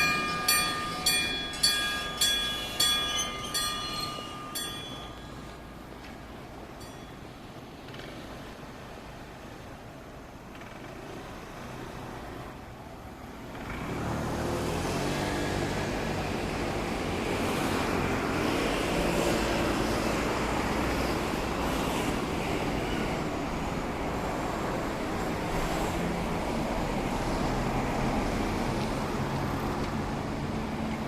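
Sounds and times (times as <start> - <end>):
tram running past: 0.0 - 8.6, 13.4 - 31.0.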